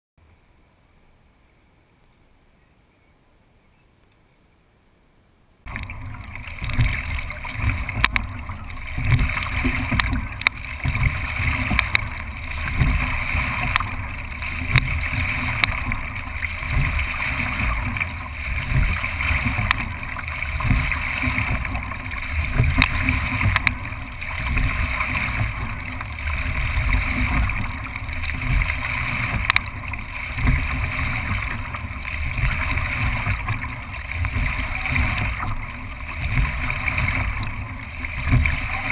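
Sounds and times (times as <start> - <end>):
water and wind rushing along hull: 5.6 - 38.9
oar clicks: 5.7 - 38.9.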